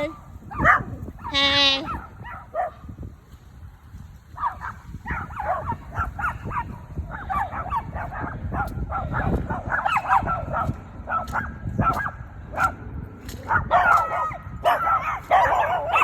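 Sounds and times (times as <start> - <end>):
dogs barking and yipping: 0.0 - 3.0, 4.2 - 16.0.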